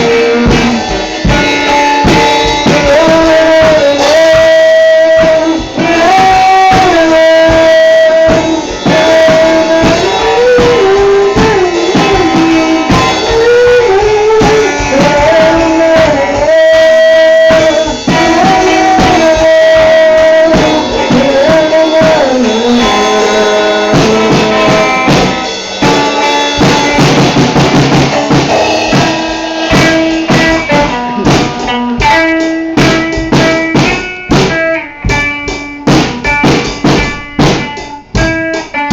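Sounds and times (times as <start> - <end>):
drum kit beat: 0.0 - 38.9.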